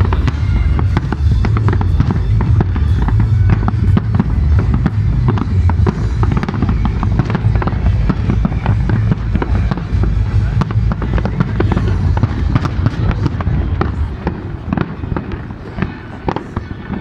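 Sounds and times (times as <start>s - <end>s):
low rumble: 0.0s - 15.6s
fireworks bangs and crackles: 0.0s - 17.0s.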